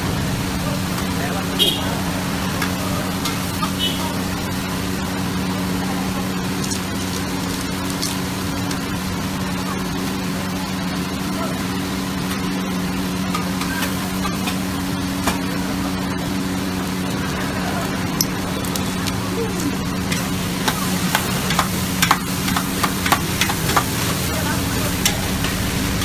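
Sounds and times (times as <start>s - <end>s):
gas burner roaring: 0.0s - 26.0s
kitchen fan hum: 0.0s - 26.0s
noodles sizzling: 0.0s - 26.0s.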